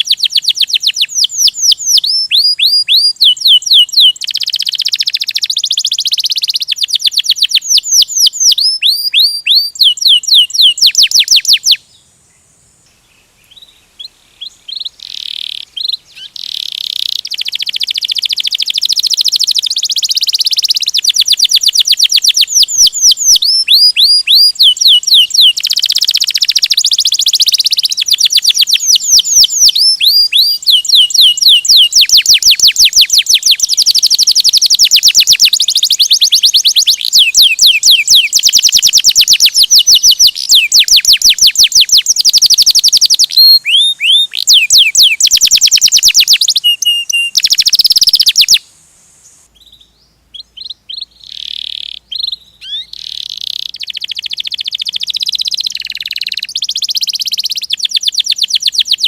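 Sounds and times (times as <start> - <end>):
canary singing trills: 0.0 - 48.7, 49.4 - 59.0.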